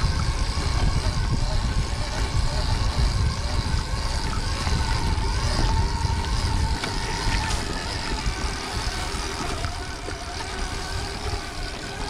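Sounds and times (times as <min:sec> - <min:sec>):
electric motorbike motor whining: 0:00.0 - 0:12.0
wind rumble on microphone: 0:00.0 - 0:12.0.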